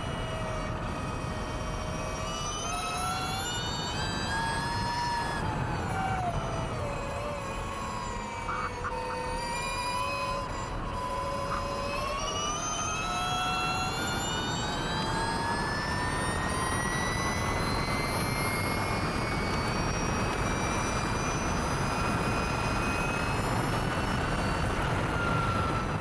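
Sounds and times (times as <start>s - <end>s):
electric motorcycle motor whine: 0.0s - 26.0s.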